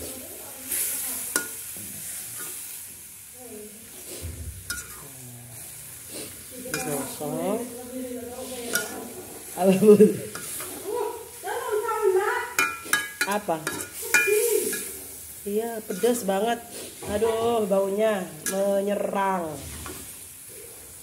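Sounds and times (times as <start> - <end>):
frying sizzle: 0.0 - 21.0
spatula scraping wok: 0.0 - 21.0.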